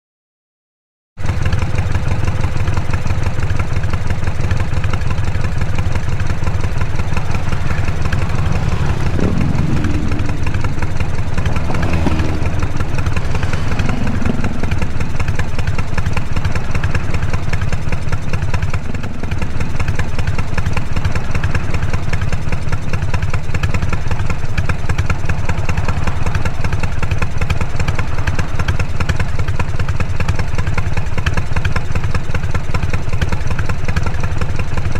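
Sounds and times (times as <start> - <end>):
motorcycle engine running: 1.2 - 34.9.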